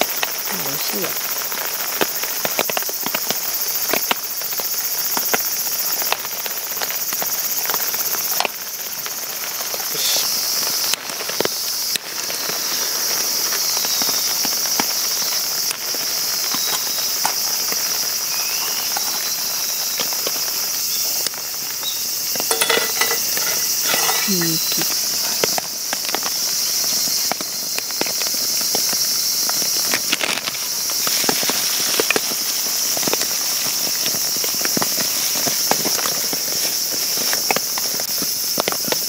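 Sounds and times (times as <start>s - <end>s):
cicadas and crickets chorus: 0.0s - 39.0s.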